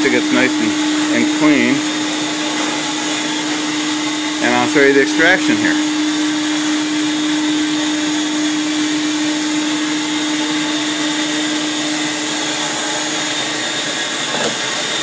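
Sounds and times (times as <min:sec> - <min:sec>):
vacuum extractor drone with hiss: 0:00.0 - 0:15.0.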